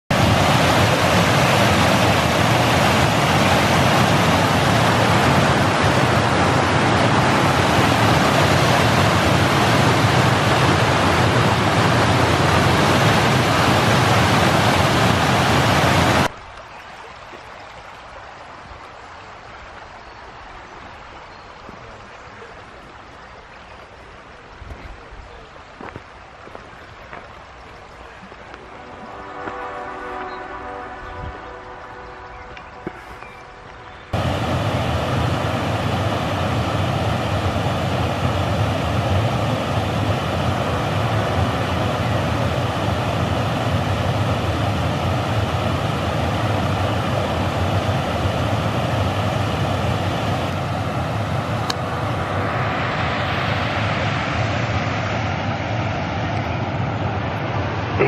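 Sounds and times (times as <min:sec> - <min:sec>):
water roaring over weir: 0:00.1 - 0:58.0.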